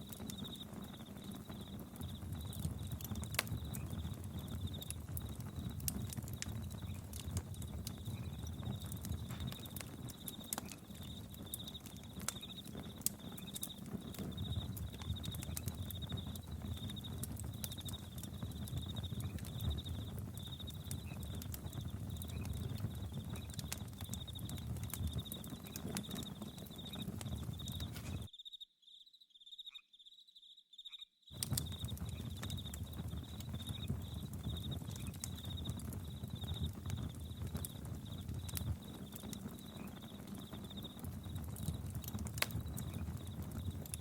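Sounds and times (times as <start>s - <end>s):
campfire crackling and popping: 0.0s - 28.3s, 31.3s - 44.0s
crickets chirping: 0.0s - 44.0s.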